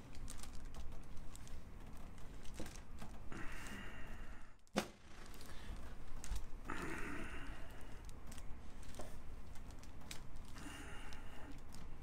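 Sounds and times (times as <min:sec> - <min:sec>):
hands clicking and rustling: 0:00.0 - 0:12.0.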